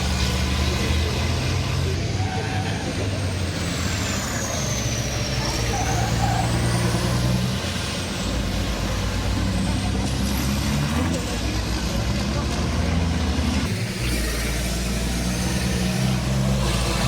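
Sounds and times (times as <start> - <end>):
heavy truck engines running: 0.0 - 17.0.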